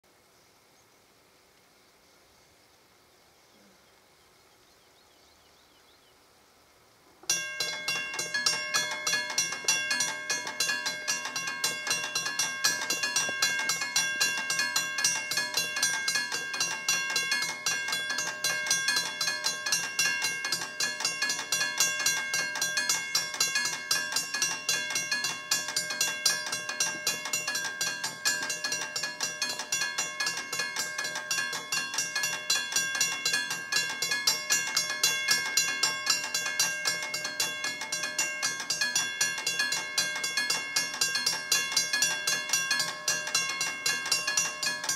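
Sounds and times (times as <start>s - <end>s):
faint outdoor background: 0.0s - 44.9s
level crossing warning bell: 7.3s - 44.9s.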